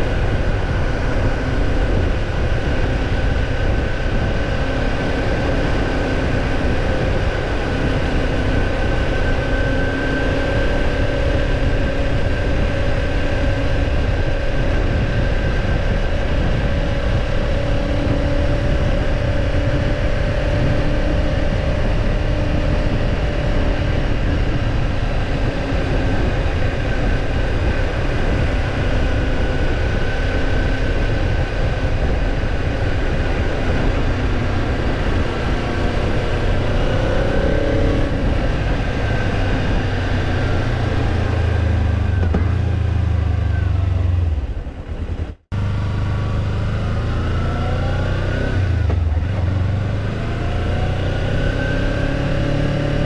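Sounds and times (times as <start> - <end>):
motorcycle engine drone: 0.0 - 53.0
wind and road noise: 0.0 - 53.0.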